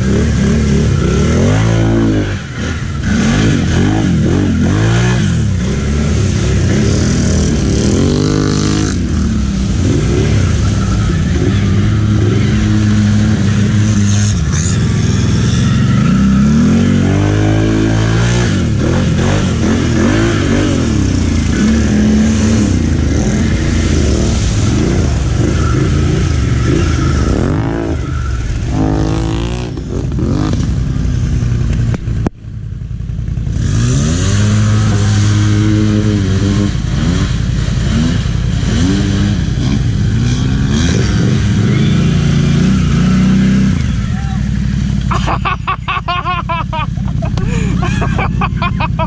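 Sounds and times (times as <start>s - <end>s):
atv engines revving: 0.0s - 49.0s.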